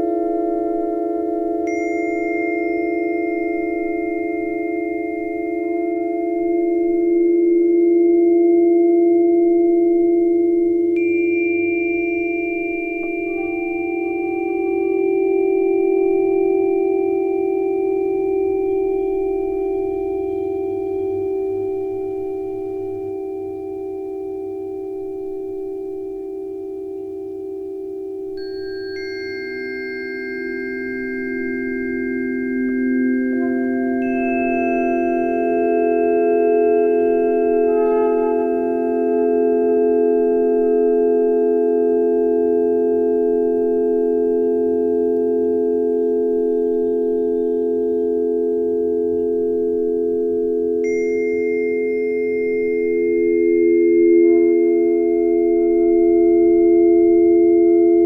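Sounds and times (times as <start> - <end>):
sustained ringing tone: 0.0 - 58.0.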